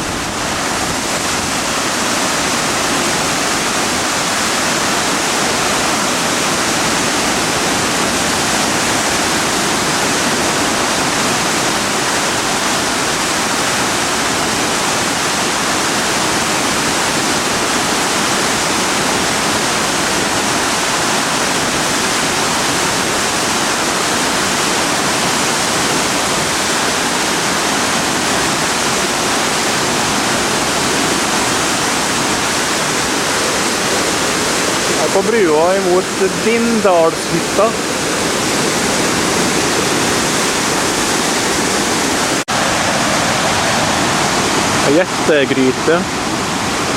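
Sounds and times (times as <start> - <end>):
flooded river rushing: 0.0 - 46.9.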